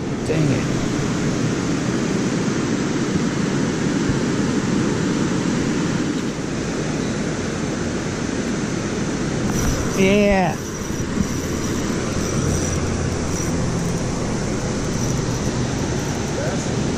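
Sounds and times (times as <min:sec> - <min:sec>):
water pouring through dam spillway: 0:00.0 - 0:16.9.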